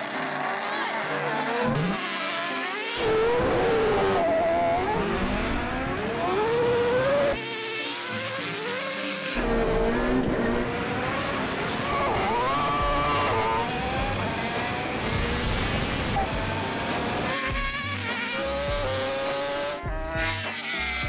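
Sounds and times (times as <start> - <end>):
racing engines revving: 0.0 - 21.0.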